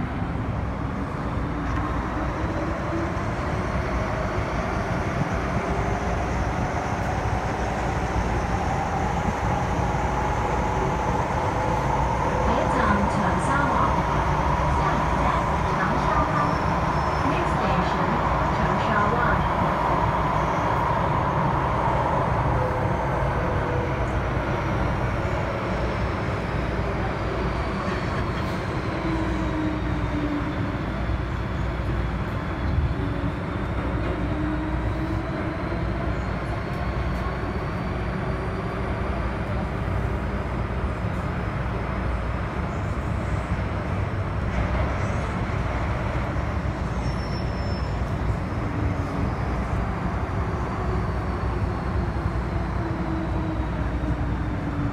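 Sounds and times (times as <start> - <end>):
wheels rumbling on rail: 0.0 - 54.9.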